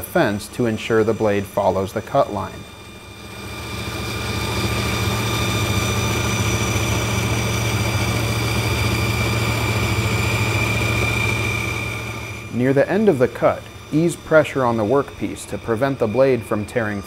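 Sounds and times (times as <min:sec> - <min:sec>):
bandsaw cutting plywood: 0:00.0 - 0:17.0.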